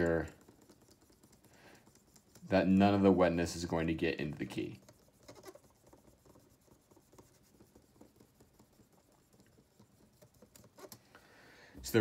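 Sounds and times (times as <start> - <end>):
cotton swab rubbing a key: 0.0 - 11.1.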